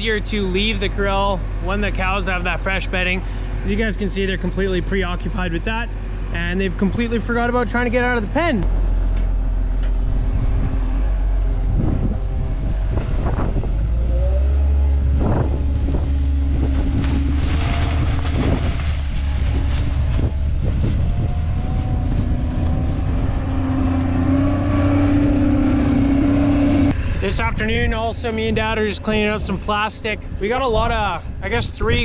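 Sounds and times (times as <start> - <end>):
diesel loader engine revving: 0.0 - 31.7.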